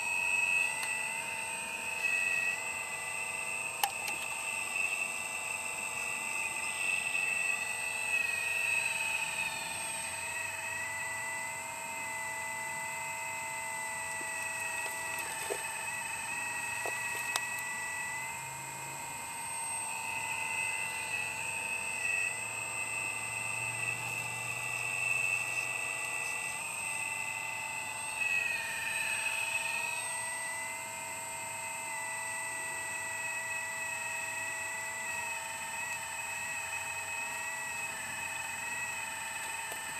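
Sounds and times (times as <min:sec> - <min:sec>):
model excavator motors whining: 0:00.0 - 0:39.9.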